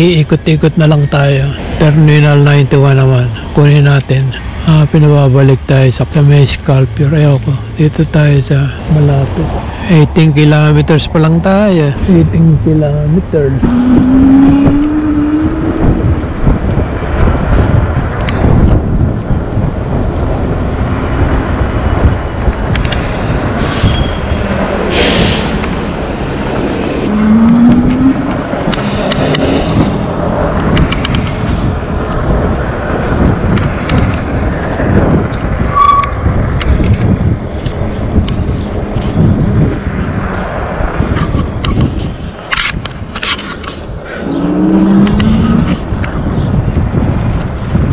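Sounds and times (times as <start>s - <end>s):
road noise: 0.0s - 47.9s
wind buffeting microphone: 0.0s - 47.9s.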